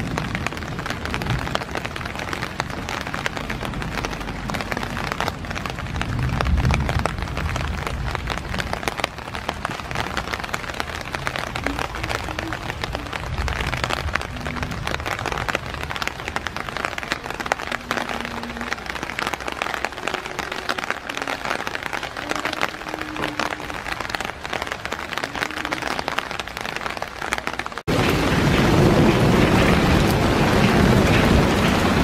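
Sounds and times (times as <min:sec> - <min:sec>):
rain pattering: 0:00.0 - 0:32.0.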